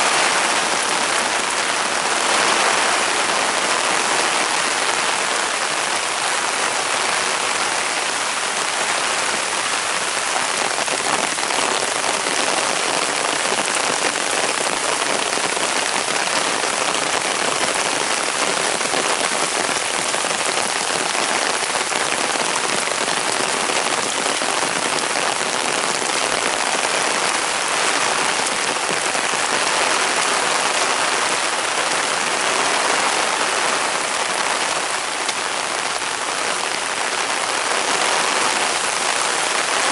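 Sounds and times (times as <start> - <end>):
heavy rain and running water: 0.0 - 39.9.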